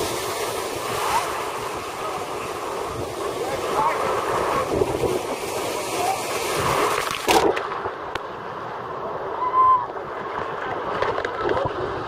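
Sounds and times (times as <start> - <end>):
surf churning and sloshing: 0.0 - 12.0.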